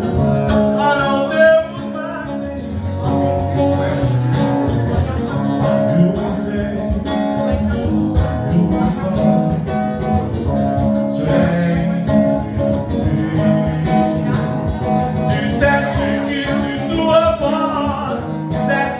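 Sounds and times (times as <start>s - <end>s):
guitar playing: 0.0s - 18.9s
live band playing: 0.0s - 18.9s.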